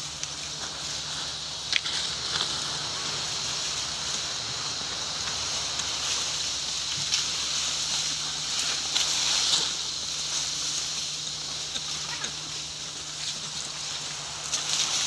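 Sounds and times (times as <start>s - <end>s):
faint ticks and rustles: 0.0s - 15.0s
high-pitched hiss: 0.0s - 15.0s.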